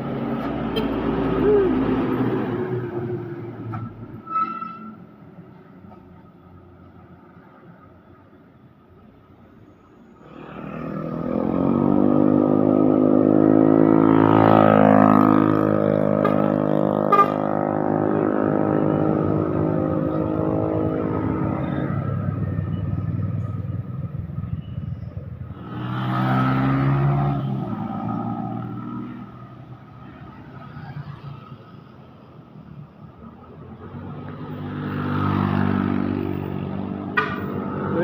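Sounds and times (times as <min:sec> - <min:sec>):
heavy diesel vehicle passing: 0:00.0 - 0:04.3, 0:09.4 - 0:38.0.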